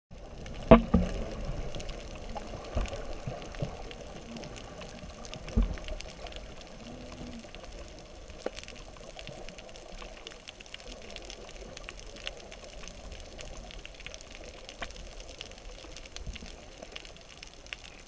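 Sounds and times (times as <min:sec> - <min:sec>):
muffled underwater wash: 0:00.1 - 0:18.0.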